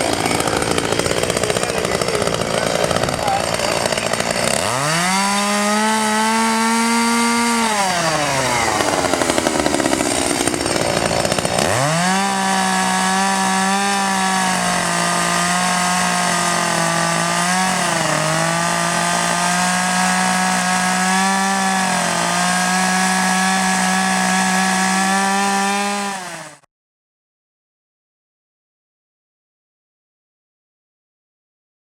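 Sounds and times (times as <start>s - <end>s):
chainsaw revving: 0.0s - 26.7s.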